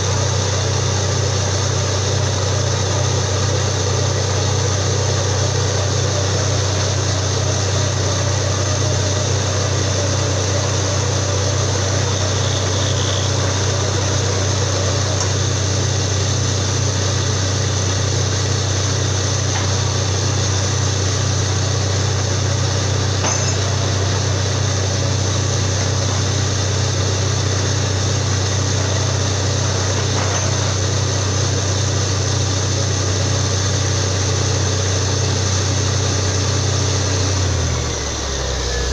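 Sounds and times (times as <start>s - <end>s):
drilling rig engine droning: 0.0s - 38.9s.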